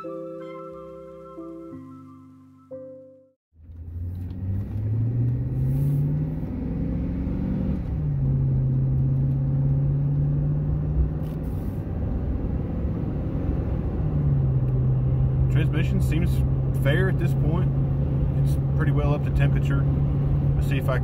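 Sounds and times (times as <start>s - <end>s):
truck engine accelerating: 3.6s - 21.0s.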